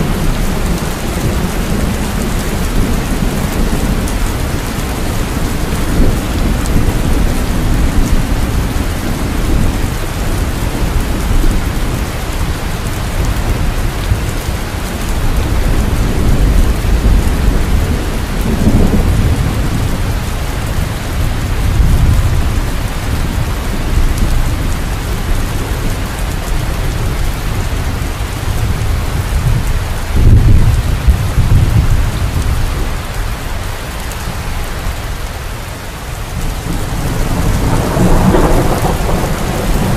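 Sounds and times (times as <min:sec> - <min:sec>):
rolling thunder: 0:00.0 - 0:33.0, 0:36.3 - 0:39.9
heavy rain: 0:00.0 - 0:39.9.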